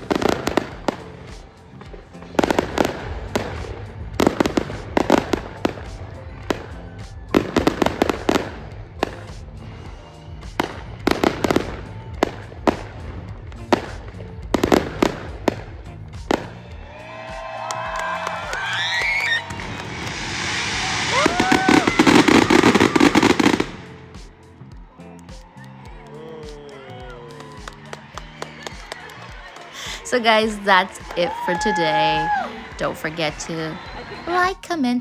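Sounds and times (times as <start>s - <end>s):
fireworks bangs and crackles: 0.0s - 24.4s, 27.4s - 34.8s.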